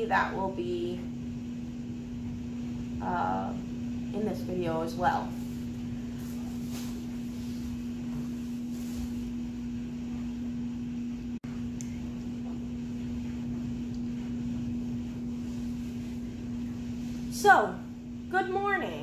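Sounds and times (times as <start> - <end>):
faint room noise: 0.0 - 19.0
steady low hum: 0.0 - 19.0.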